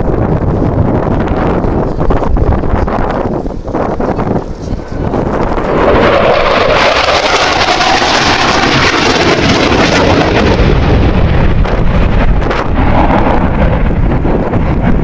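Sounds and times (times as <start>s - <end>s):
jet fighter afterburner roar: 0.0s - 15.0s.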